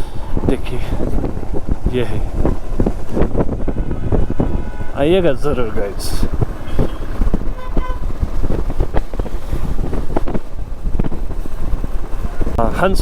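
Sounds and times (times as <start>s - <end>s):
motorcycle engine rumble: 0.0s - 13.0s
wind noise on microphone: 0.0s - 13.0s.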